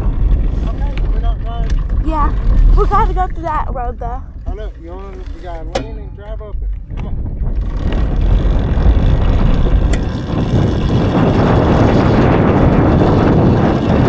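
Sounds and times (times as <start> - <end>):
tyre rumble: 0.0 - 14.0
wind buffeting microphone: 0.0 - 14.0.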